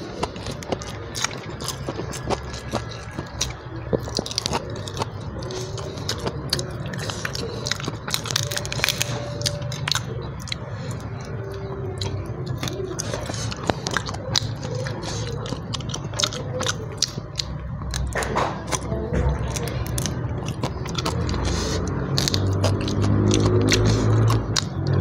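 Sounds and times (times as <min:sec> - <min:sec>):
mouth clicks: 0:00.0 - 0:25.0
person chewing crunchy food: 0:00.0 - 0:25.0.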